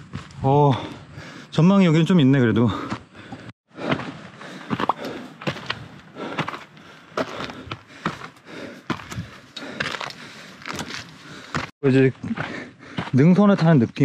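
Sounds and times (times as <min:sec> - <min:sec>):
footsteps on stone and gravel: 0:00.0 - 0:01.0, 0:02.6 - 0:14.0.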